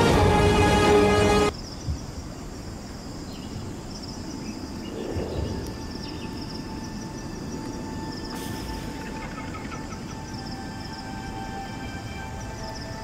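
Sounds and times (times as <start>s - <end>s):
insects chirping in trills: 0.0s - 13.0s.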